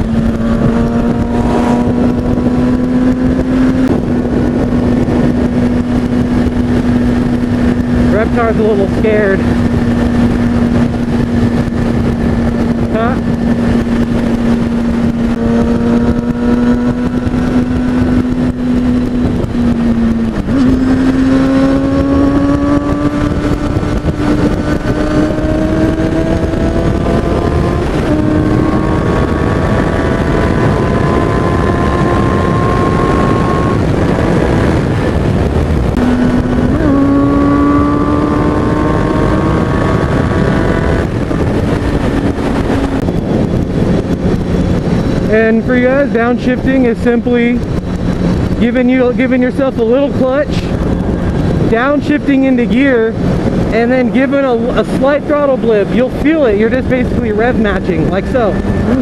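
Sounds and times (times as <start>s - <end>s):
motorcycle engine running: 0.0s - 59.0s
wind noise rushing: 0.0s - 59.0s.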